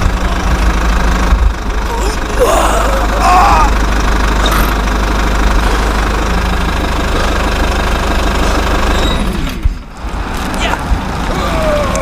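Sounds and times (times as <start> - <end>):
engine-like drone: 0.0 - 12.0.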